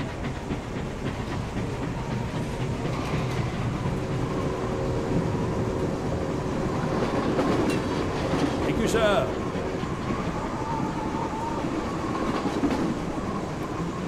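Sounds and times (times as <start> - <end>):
train rumbling with rail clatter: 0.0 - 14.0.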